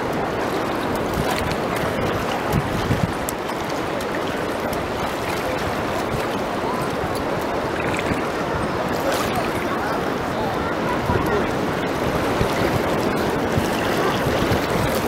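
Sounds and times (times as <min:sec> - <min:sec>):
shallow water sloshing: 0:00.2 - 0:15.0.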